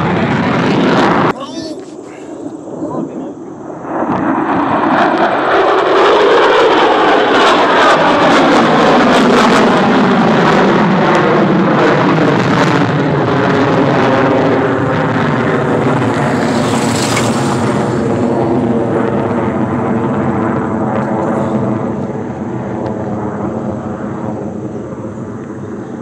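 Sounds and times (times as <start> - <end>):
jet fighter flying over: 0.0 - 26.0.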